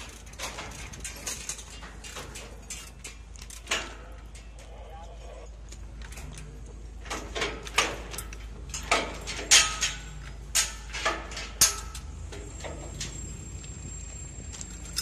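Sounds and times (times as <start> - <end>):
chain clanking against steel frame: 0.0 - 4.7, 5.6 - 15.0.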